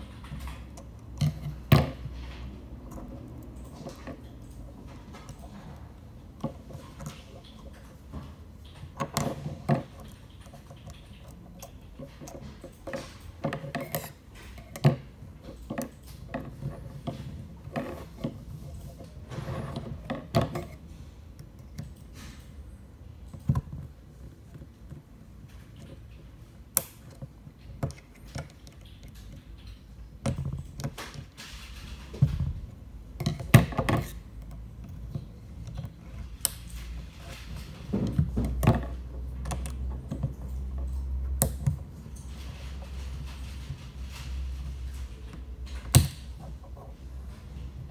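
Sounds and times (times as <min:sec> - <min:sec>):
small parts clicking and scraping: 0:00.0 - 0:47.9.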